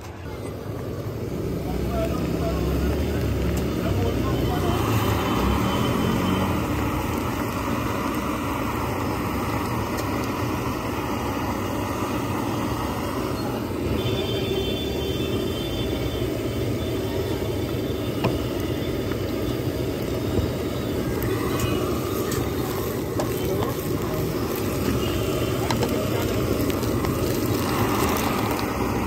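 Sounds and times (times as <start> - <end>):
gas burner rumble and hiss: 0.0 - 29.0
eggs frying in a steel pan: 0.6 - 29.0.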